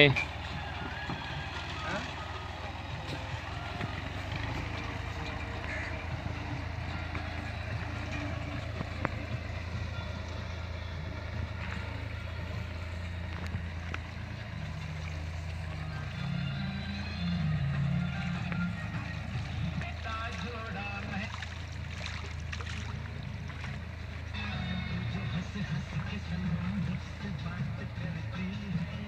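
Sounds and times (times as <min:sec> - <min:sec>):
tractor engine droning: 0:00.0 - 0:29.0.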